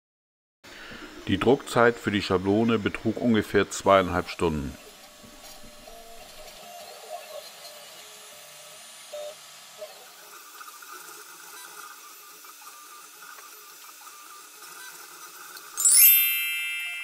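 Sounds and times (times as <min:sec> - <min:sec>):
three d printer motors whining: 0:01.8 - 0:15.8.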